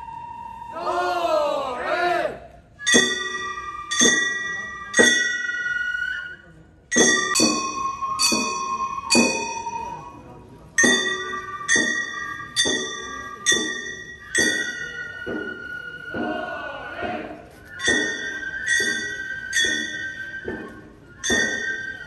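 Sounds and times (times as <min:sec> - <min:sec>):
flute holding high notes: 0:00.0 - 0:01.8, 0:02.7 - 0:06.6, 0:07.4 - 0:22.0.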